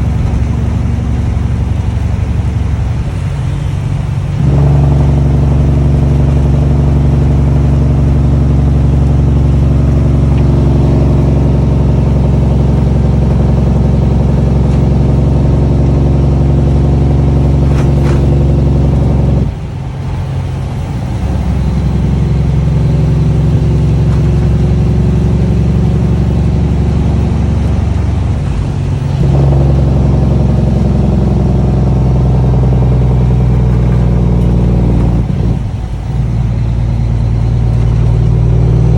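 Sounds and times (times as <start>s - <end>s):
loud diesel truck engine: 0.0s - 38.9s.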